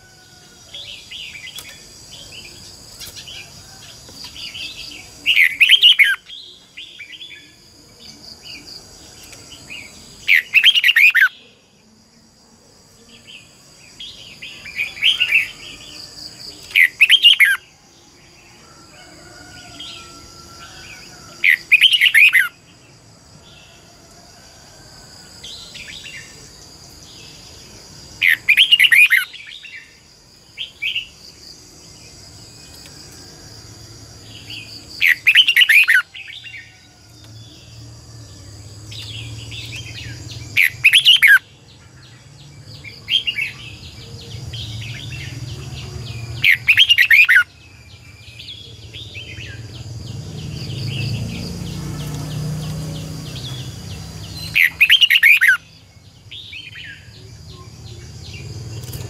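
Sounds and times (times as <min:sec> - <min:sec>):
bird warbling song: 0:00.0 - 0:11.6, 0:13.1 - 0:17.7, 0:19.3 - 0:22.6, 0:28.2 - 0:31.2, 0:34.2 - 0:59.0.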